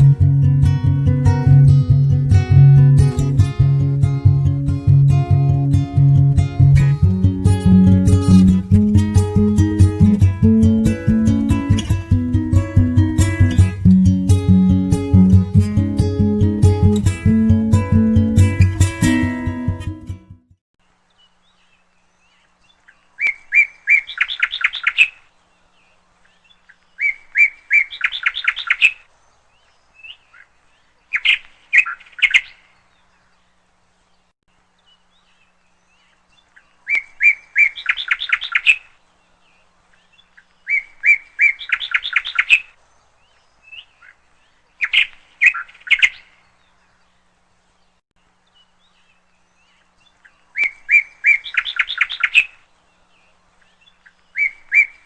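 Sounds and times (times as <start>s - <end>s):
songbird singing: 0.0s - 20.1s, 20.8s - 55.0s.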